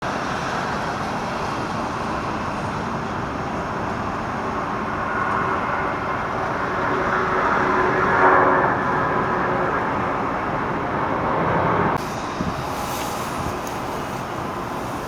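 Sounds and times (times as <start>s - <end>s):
faint engine whine: 0.1s - 15.0s
jet engines roaring: 0.1s - 15.0s.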